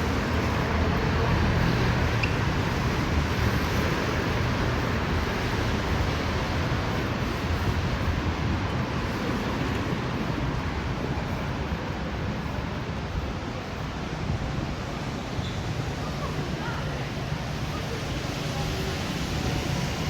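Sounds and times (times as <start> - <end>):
traffic on wet asphalt: 0.0 - 20.0.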